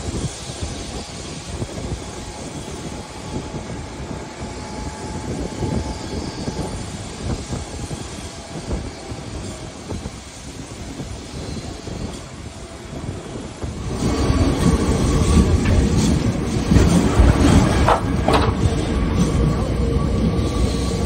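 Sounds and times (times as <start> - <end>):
tram rumbling on rails: 0.0 - 21.0.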